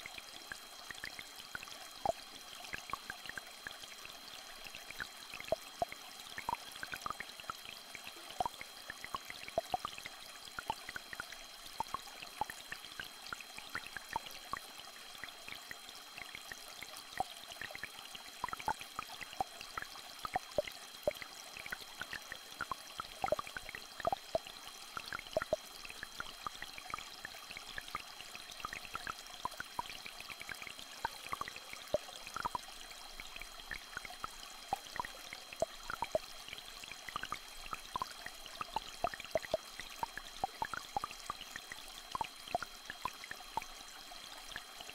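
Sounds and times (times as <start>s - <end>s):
small stream trickling: 0.0s - 44.9s
water drips: 4.6s - 44.9s.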